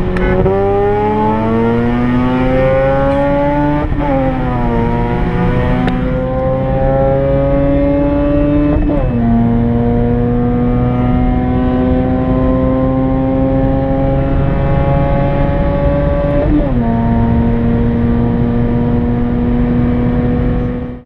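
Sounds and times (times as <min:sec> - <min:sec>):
rotary engine accelerating: 0:00.0 - 0:21.0.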